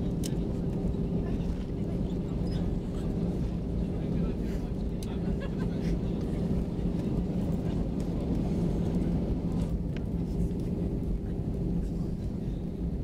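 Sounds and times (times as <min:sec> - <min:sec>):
aircraft engine hum: 0:00.0 - 0:13.0
low cabin rumble: 0:00.0 - 0:13.0.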